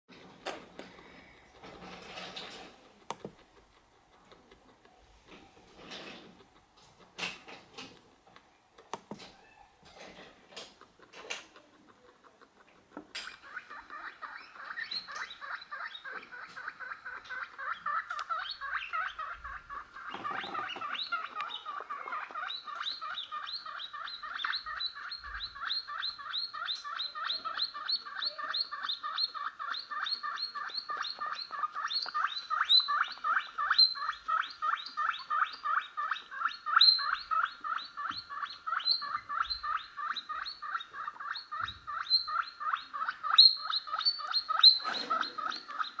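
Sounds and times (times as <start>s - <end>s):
guinea pig wheeking: 0.1s - 8.4s, 9.1s - 46.0s.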